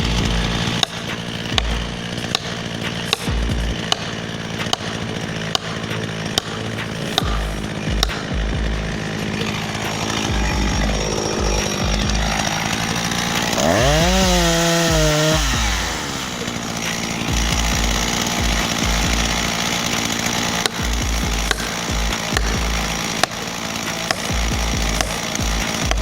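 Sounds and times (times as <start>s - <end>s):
chainsaw engine revving: 0.0s - 26.0s.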